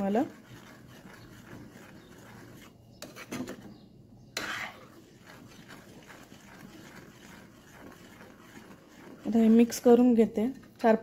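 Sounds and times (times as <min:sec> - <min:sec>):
spoon scraping in steel pan: 0:00.0 - 0:10.9.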